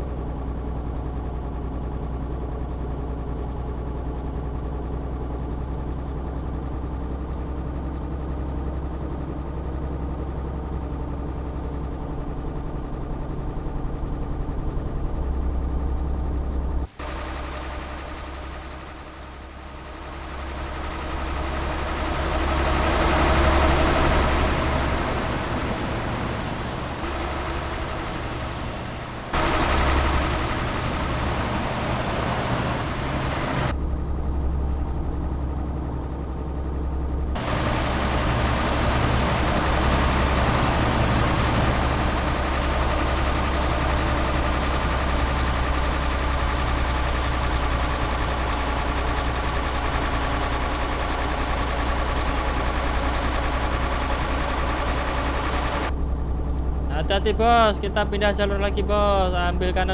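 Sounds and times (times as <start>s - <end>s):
truck diesel engine hum: 0.0s - 59.9s.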